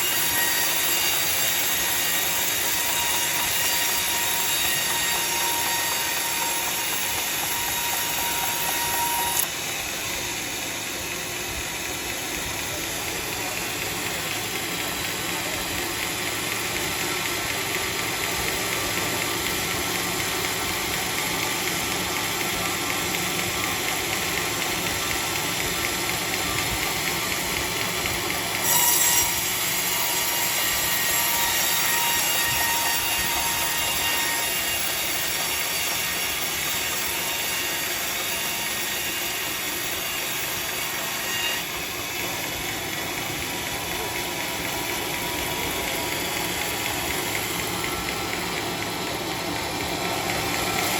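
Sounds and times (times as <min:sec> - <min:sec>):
sawmill saw cutting timber: 0:00.0 - 0:50.9.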